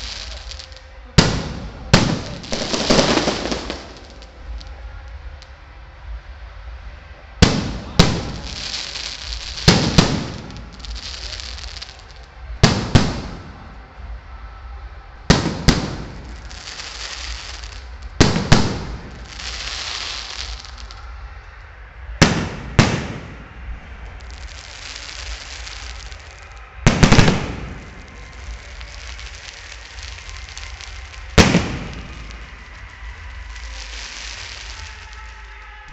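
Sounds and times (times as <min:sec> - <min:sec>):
fireworks bangs: 0:00.0 - 0:05.5, 0:07.3 - 0:14.2, 0:15.2 - 0:21.3, 0:22.0 - 0:35.9
fireworks crackling hiss: 0:00.0 - 0:35.9.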